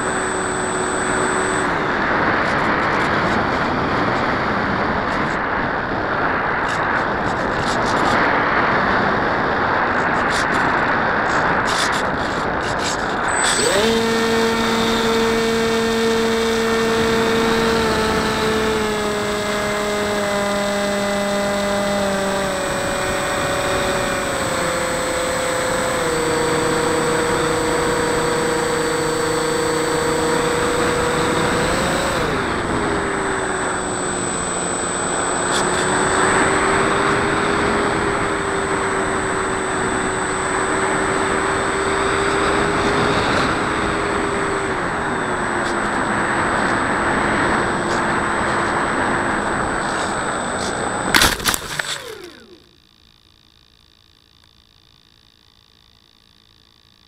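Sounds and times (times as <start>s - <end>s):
electric motor propeller buzzing: 0.0s - 57.0s.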